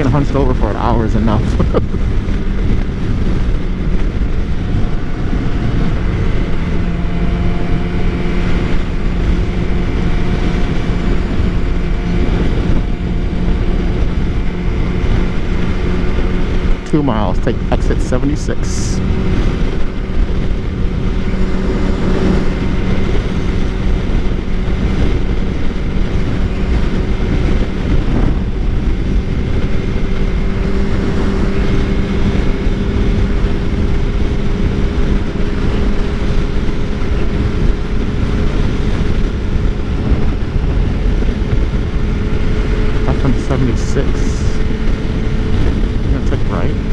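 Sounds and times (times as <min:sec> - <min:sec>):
motorcycle engine cruising: 0:00.0 - 0:46.9
wind rush on microphone: 0:00.0 - 0:46.9.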